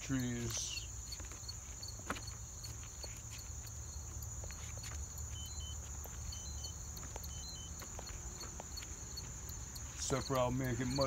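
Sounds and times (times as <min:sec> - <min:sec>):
handling ticks and rustles: 0:00.0 - 0:11.0
insects trilling: 0:00.0 - 0:11.0.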